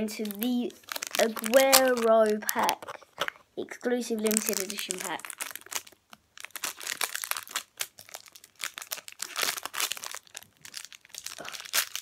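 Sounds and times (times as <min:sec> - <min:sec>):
foil pack crinkling and tearing: 0:00.0 - 0:03.4, 0:04.1 - 0:12.0.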